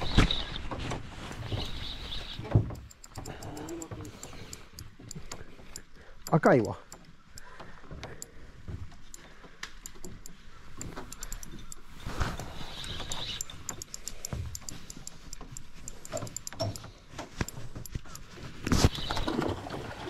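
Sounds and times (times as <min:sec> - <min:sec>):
light clicks and rustling: 0:00.1 - 0:19.5.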